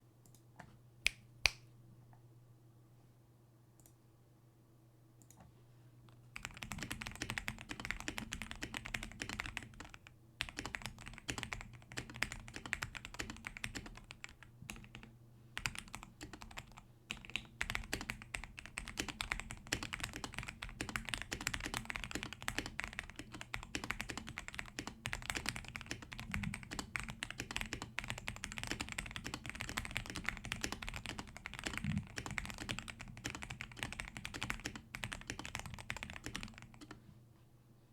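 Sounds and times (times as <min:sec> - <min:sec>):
typing on mechanical keyboard: 0:06.4 - 0:37.0.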